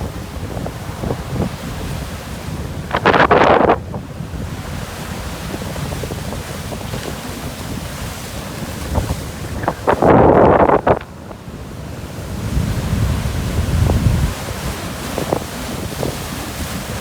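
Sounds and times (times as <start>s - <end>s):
rough surf washing in: 0.0s - 17.0s
wind buffeting microphone: 0.0s - 17.0s.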